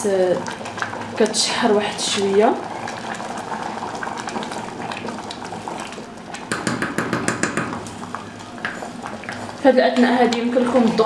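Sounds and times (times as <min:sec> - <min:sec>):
stew simmering: 0:00.0 - 0:11.0.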